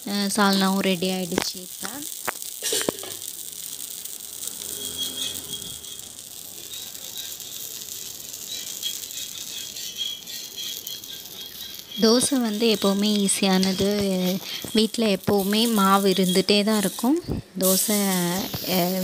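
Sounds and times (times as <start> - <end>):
batter sizzling on a hot pan: 0.0 - 19.0.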